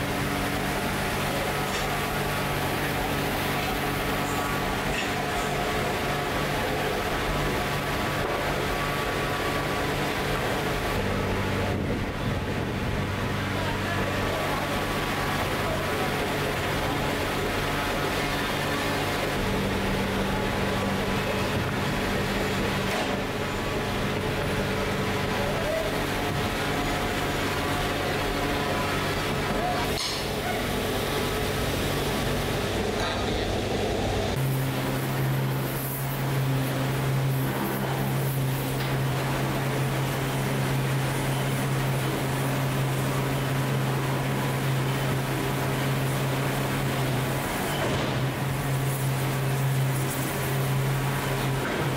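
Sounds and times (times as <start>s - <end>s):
machinery droning: 0.0s - 51.9s.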